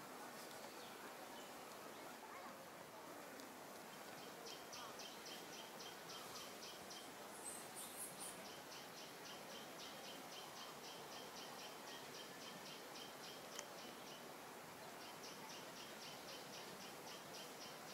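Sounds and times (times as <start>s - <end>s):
steady background hiss: 0.0s - 17.9s.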